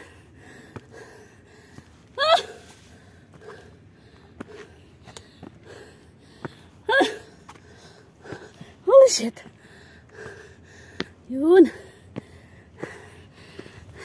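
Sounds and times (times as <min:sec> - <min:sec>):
person breathing hard: 0:00.0 - 0:08.8, 0:09.4 - 0:14.0.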